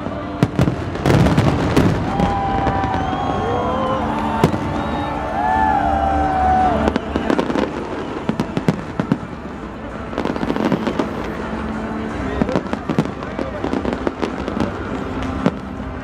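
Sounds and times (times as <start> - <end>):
fireworks bangs and crackling: 0.0 - 5.0, 6.8 - 16.0
people's voices: 0.0 - 16.0.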